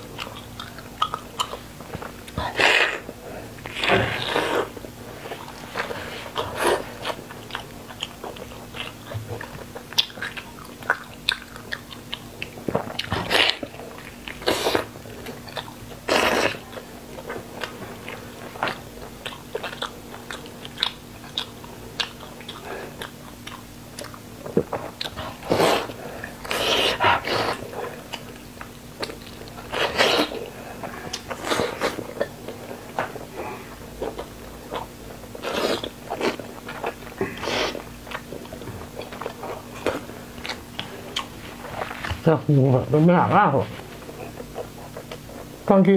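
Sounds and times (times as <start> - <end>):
wet chewing and smacking: 0.0 - 42.2, 43.8 - 45.7.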